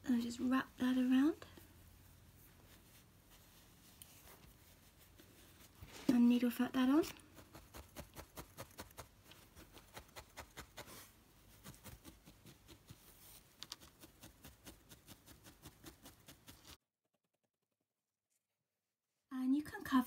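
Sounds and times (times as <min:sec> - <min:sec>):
felting needle poking wool: 0:01.0 - 0:17.7.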